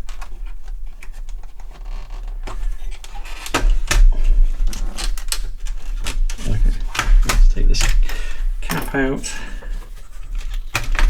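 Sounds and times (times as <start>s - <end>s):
clicks and knocks of computer parts: 0.0s - 11.0s.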